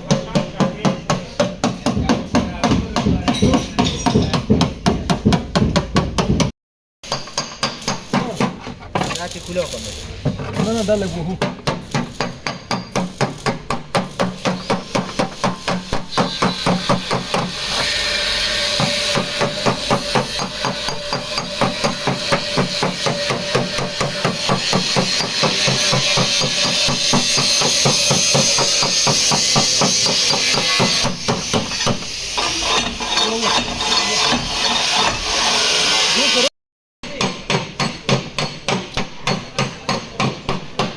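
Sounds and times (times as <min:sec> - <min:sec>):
hammering on sheet metal: 0:00.0 - 0:08.8, 0:10.5 - 0:35.3, 0:37.0 - 0:40.9.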